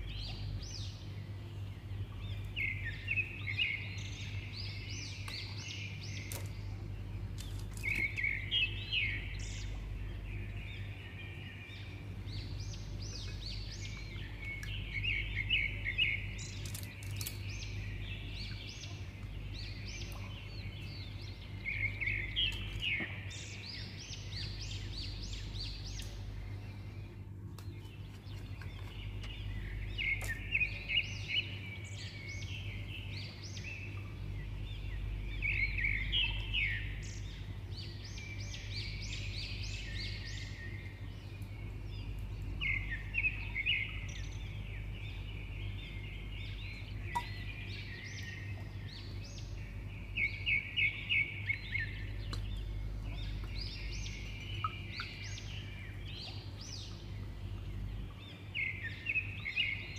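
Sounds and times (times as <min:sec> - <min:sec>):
small birds chirping: 0:00.0 - 0:59.9
steady low hum: 0:00.0 - 0:59.9.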